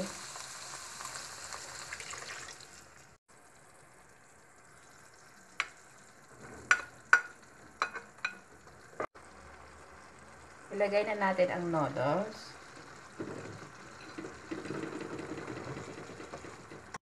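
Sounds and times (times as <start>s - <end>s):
water sizzling in a hot pan: 0.0s - 17.0s.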